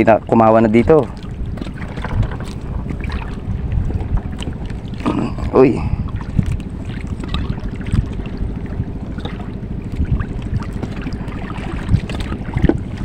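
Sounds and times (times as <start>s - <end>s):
low rumble of wind and water: 0.0s - 13.0s.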